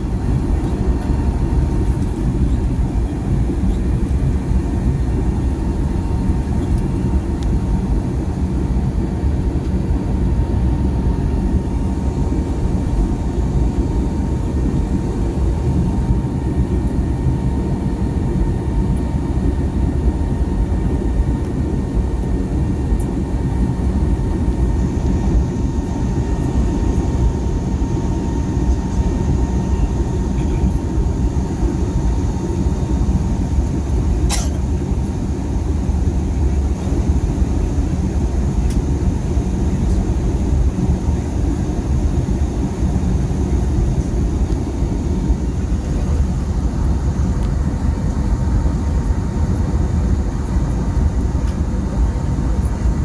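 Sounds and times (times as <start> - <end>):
aircraft cabin engine rumble: 0.0 - 53.0
faint steady whine: 0.0 - 53.0.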